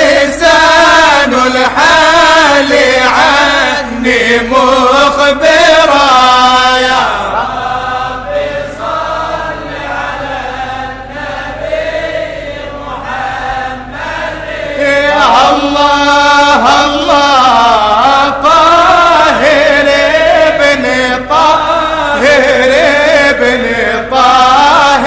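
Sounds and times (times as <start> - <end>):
voices chanting devotional song: 0.0 - 25.0.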